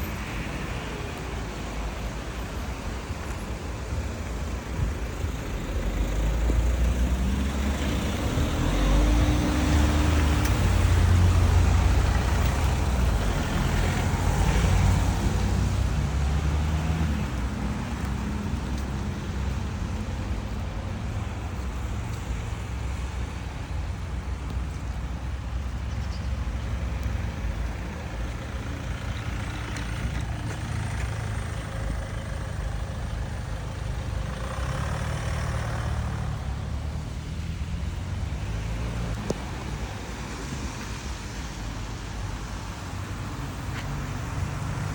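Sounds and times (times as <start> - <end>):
heavy vehicle rumbling past: 0.0 - 24.4, 25.2 - 44.9
tyres hissing on wet road: 0.0 - 44.9.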